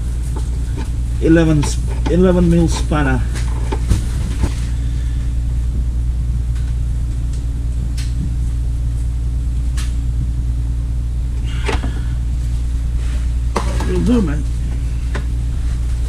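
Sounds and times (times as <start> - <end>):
low rumble and hum: 0.0 - 16.0.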